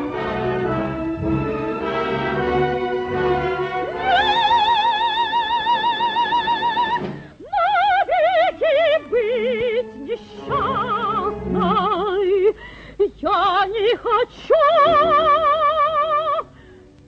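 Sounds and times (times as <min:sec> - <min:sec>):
operatic soprano singing: 0:01.8 - 0:16.6.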